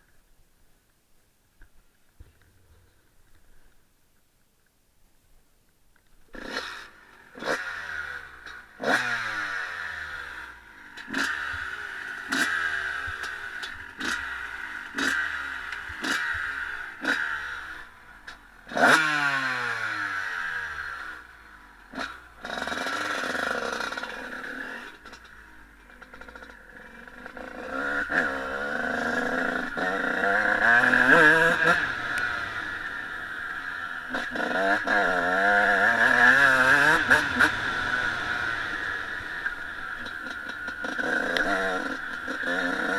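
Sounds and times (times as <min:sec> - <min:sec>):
motocross engine throttle blips: 0:06.3 - 0:42.9.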